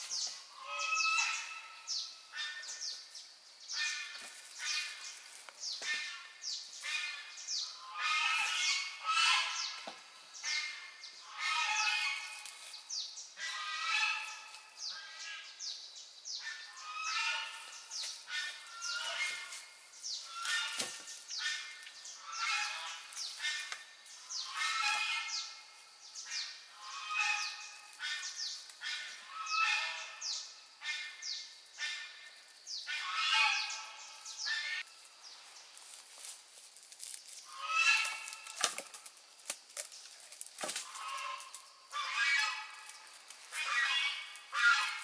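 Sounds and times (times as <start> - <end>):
birds calling: 0.0 - 36.3, 37.0 - 45.0.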